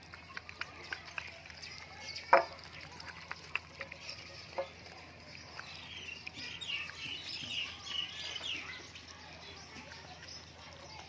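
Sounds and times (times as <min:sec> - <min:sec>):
puppies chewing food: 0:00.0 - 0:11.0
birds chirping: 0:00.1 - 0:11.0.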